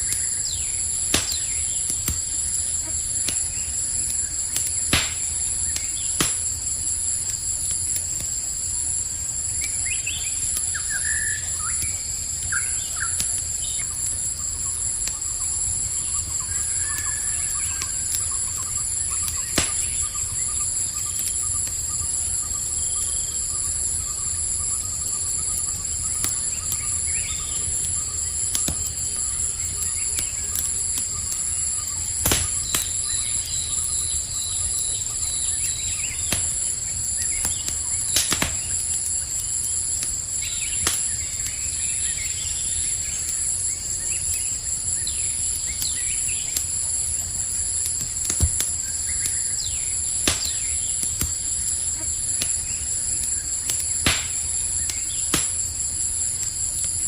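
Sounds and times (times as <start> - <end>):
campfire crackling and popping: 0.0 - 57.0
crickets and night insects chirring: 0.0 - 57.0.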